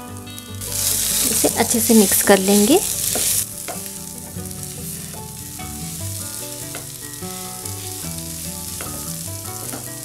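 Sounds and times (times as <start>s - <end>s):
background music with held notes: 0.0s - 10.0s
potatoes sizzling in oil: 0.0s - 10.0s
spatula scraping a pan: 0.6s - 9.9s.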